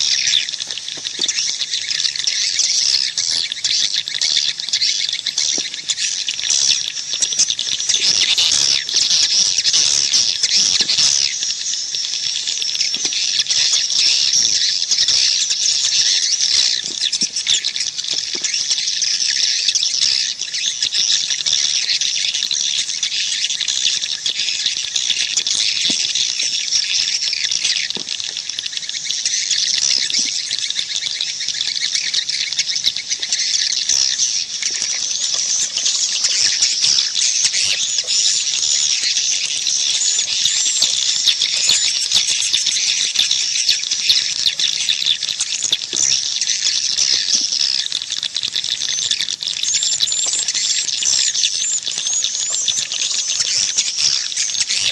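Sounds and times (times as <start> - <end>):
swiftlets twittering: 0.0 - 22.2, 22.8 - 54.9.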